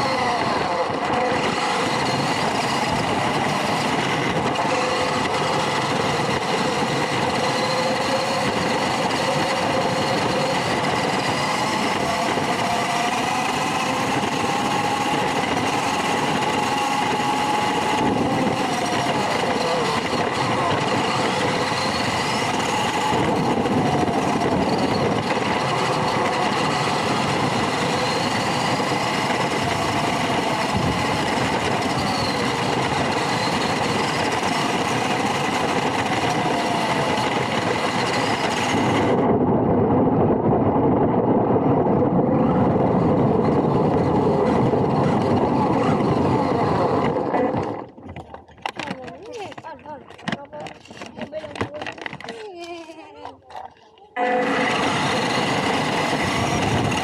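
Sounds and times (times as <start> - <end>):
small electric motor whine: 0.0 - 39.3, 42.2 - 47.8, 54.2 - 57.0
rattling and rolling noise: 0.0 - 57.0.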